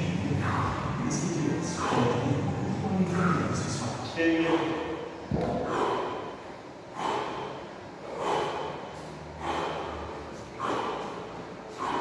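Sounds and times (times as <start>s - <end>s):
man breathing heavily: 0.3s - 3.6s, 4.4s - 12.0s.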